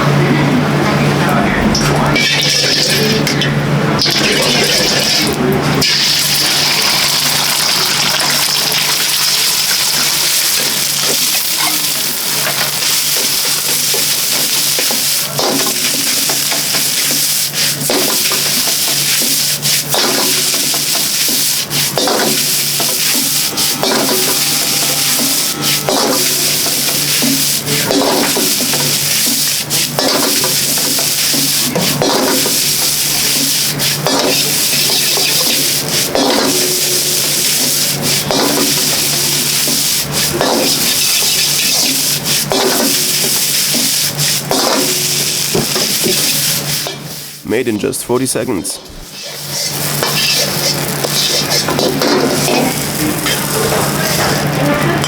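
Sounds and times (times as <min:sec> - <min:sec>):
rice sizzling in a wok: 0:04.1 - 0:47.4, 0:49.0 - 0:55.0
steady low hum: 0:09.9 - 0:55.0.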